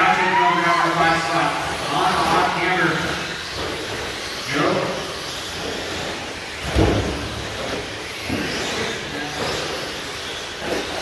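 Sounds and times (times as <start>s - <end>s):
small motors and tyres racing: 0.0s - 11.0s.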